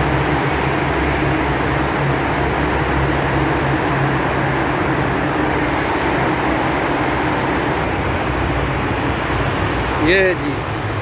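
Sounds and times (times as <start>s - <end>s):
cars passing in tunnel: 0.0s - 11.0s.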